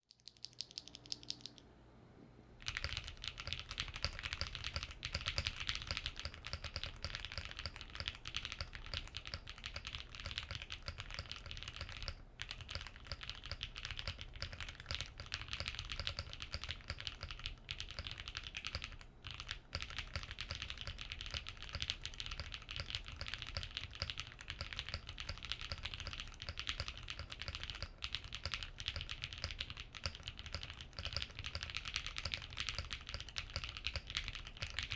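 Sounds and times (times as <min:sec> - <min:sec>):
mechanical keyboard typing: 0:00.1 - 0:01.6, 0:02.6 - 0:34.9.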